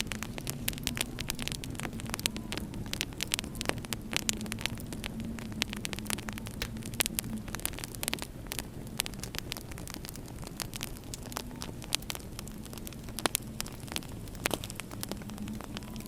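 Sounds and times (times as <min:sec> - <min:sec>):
faint hum: 0:00.0 - 0:16.0
low steady rumble: 0:00.0 - 0:16.0
wood fire crackling: 0:00.0 - 0:16.0.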